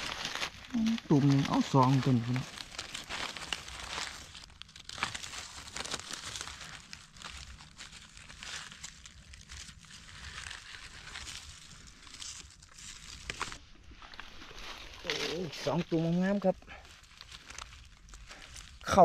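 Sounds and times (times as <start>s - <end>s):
dry leaves rustling and crunching: 0.0s - 19.0s.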